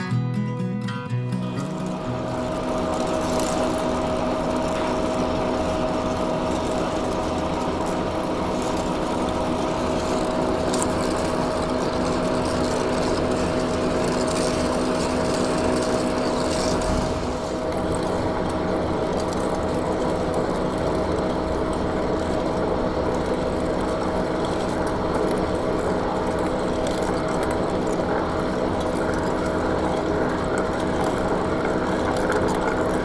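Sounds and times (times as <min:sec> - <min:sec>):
boring mill humming: 0:00.0 - 0:33.0.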